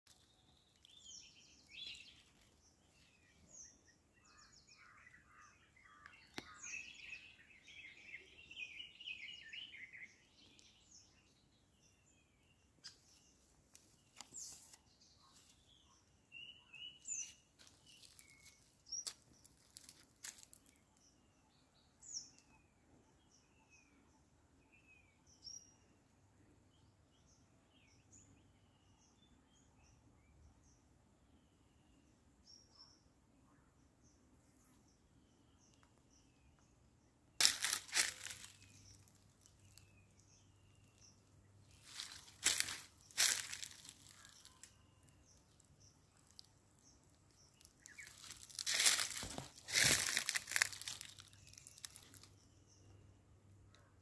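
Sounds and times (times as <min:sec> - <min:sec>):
birds chirping: 0:00.1 - 0:26.1, 0:27.2 - 0:54.0.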